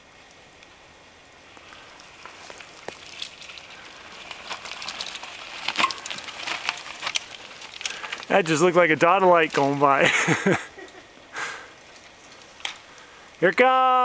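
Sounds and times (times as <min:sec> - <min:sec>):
bike tyres crunching over dirt: 0:00.0 - 0:14.0.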